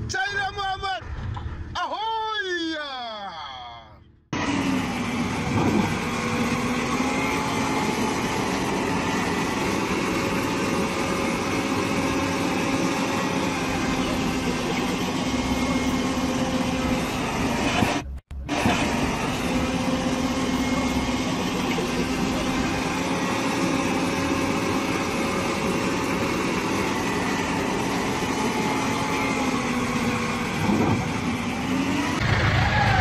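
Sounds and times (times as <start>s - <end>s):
diesel engine running: 4.0s - 33.0s.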